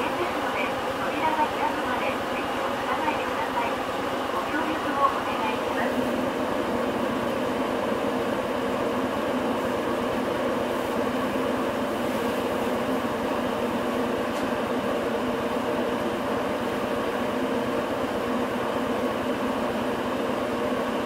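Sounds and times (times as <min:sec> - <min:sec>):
bus engine hum: 0:00.0 - 0:21.0.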